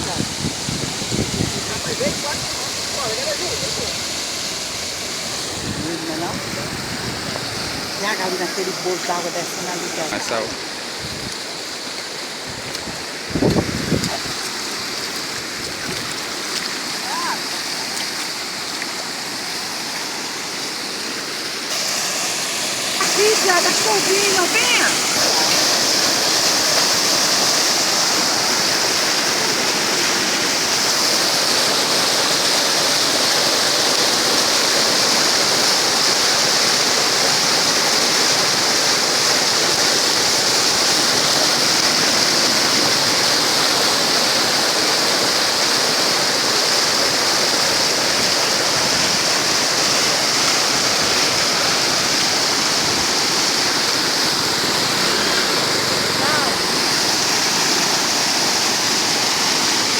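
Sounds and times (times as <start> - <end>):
fast-flowing river rushing: 0.0 - 59.9.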